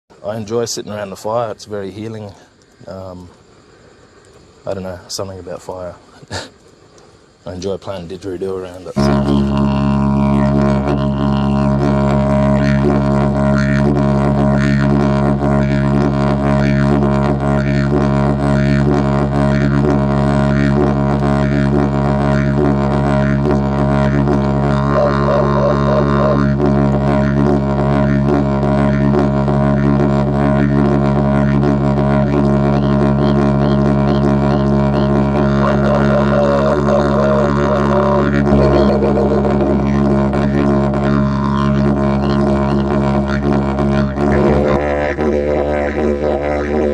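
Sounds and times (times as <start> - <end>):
didgeridoo drone: 8.7 - 46.9.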